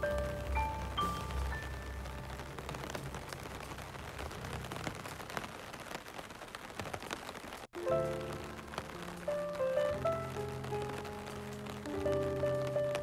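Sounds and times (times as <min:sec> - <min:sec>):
soft background music: 0:00.0 - 0:05.9, 0:07.8 - 0:13.0
rain falling: 0:00.0 - 0:13.0
raindrops ticking: 0:00.0 - 0:13.0.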